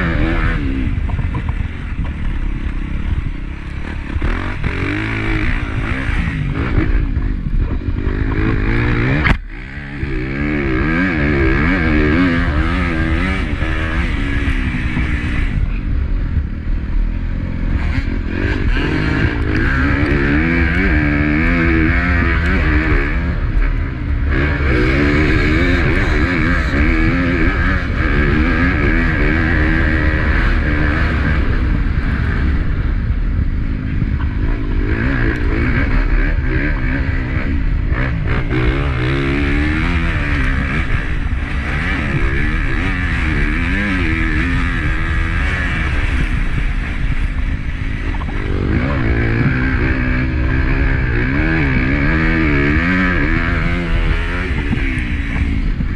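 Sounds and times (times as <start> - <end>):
motocross engine revving: 0.0 - 55.9
wind noise: 0.0 - 55.9.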